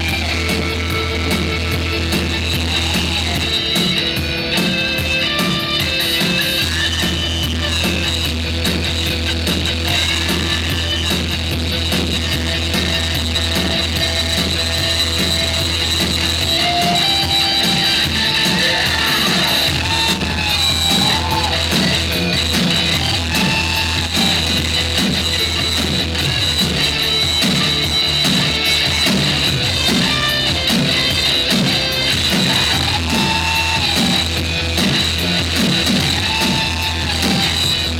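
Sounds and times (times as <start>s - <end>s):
live rock band instrumental: 0.0s - 37.9s.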